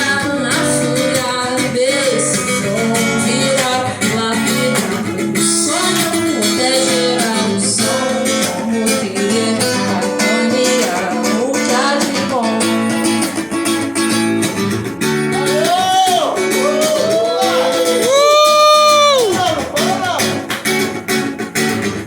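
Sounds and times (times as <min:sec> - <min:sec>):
guitar music: 0:00.0 - 0:22.0.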